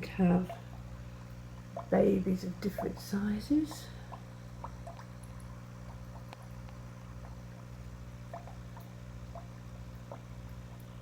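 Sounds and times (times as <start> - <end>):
aquarium water trickling: 0.0 - 11.0
steady low hum: 0.0 - 11.0
water drips: 0.0 - 11.0.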